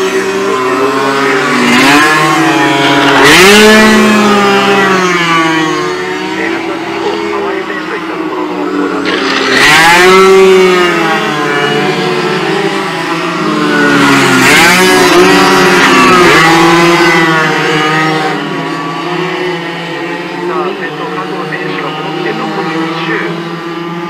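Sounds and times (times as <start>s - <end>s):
racing motorcycles passing at speed: 0.0s - 24.0s.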